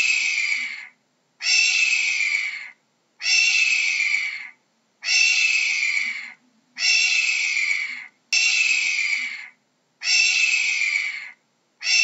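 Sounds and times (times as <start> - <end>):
hawk screaming: 0.0 - 12.0.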